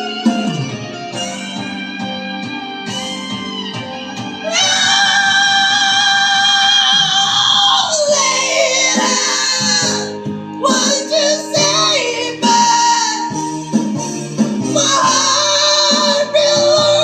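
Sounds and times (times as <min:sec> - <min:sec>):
backing music: 0:00.0 - 0:17.0.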